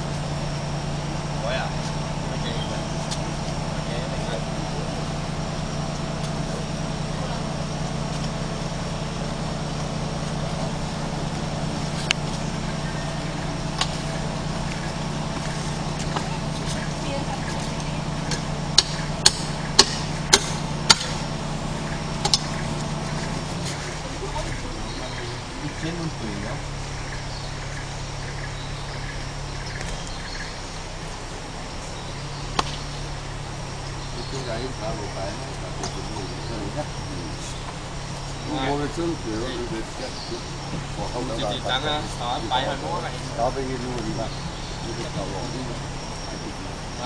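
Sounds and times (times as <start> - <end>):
engine humming: 0.0 - 47.0.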